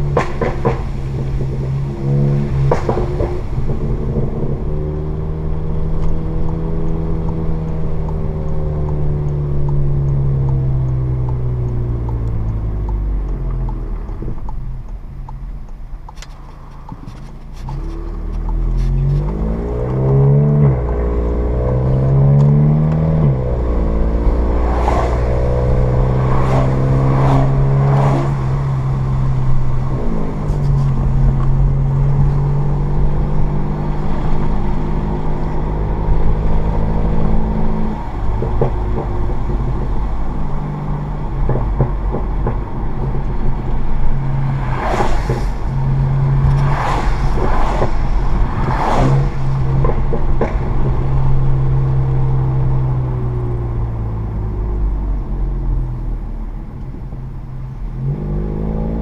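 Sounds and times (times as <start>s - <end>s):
car engine accelerating hard: 0.0s - 15.7s, 16.5s - 59.0s
sharp exhaust pops: 0.0s - 54.6s.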